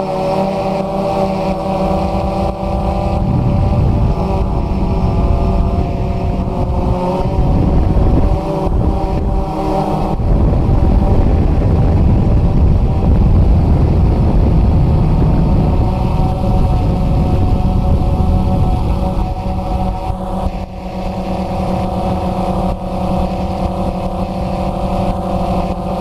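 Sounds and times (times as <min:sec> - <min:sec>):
drone propellers buzzing: 0:00.0 - 0:26.0
wind on microphone: 0:00.0 - 0:26.0.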